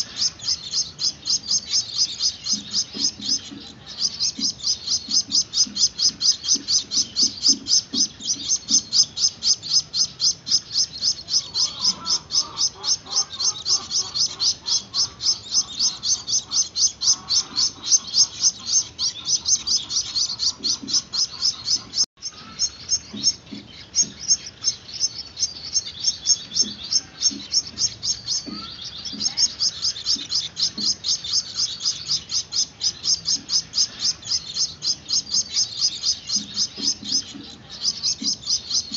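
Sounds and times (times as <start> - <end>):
finch chicks chirping: 0.0 - 38.9.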